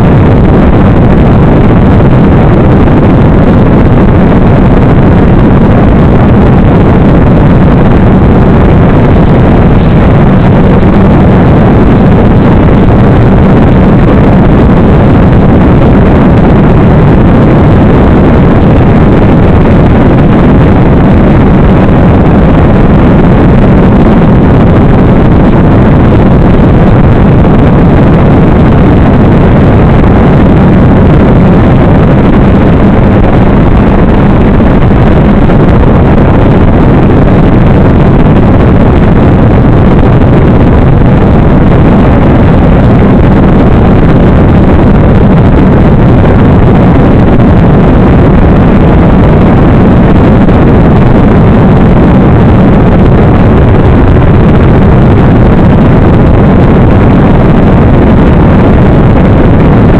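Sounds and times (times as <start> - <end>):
air rushing over microphone: 0.0 - 59.9
low hum: 0.0 - 59.9.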